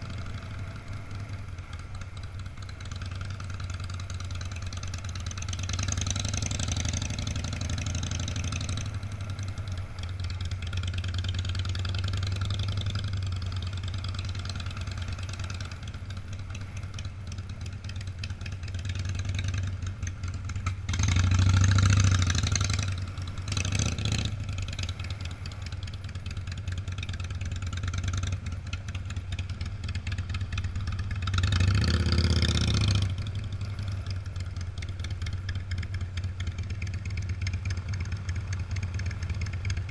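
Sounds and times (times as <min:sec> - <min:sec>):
car and motorcycle engines passing: 0:00.0 - 0:39.9.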